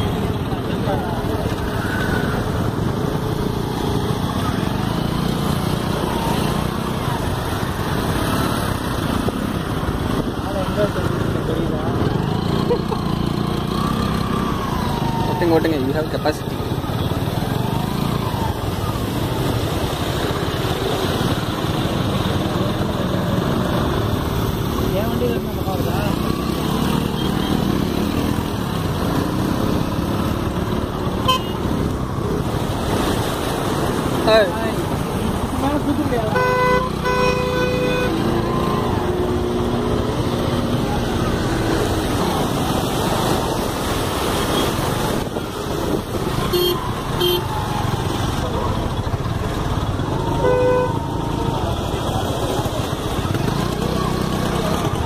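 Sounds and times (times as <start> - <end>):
road traffic engine noise: 0.0 - 55.0.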